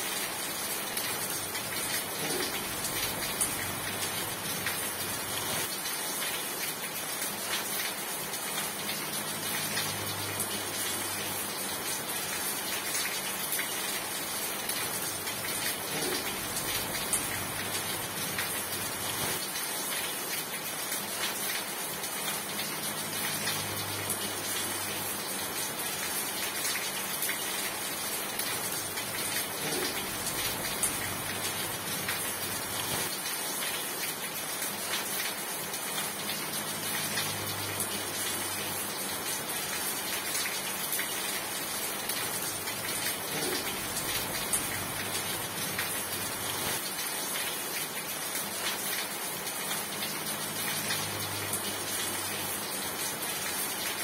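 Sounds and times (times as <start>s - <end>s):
rain hiss and patter: 0.0s - 54.0s.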